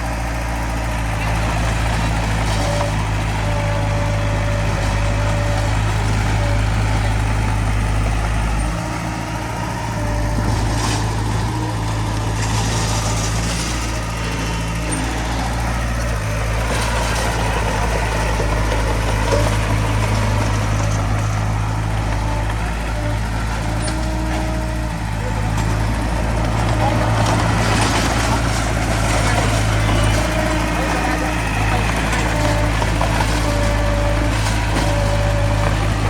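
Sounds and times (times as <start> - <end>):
heavy diesel machinery running: 0.0 - 36.0.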